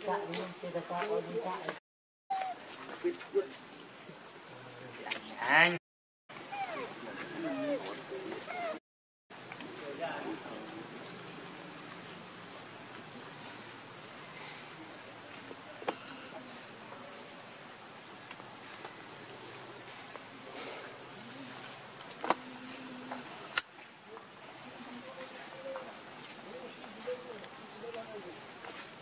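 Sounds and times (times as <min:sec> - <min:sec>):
insects droning: 0:02.3 - 0:29.0.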